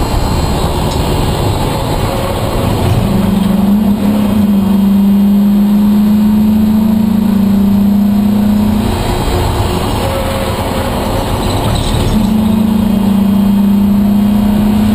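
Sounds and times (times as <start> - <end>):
race car engine droning: 0.0 - 14.9.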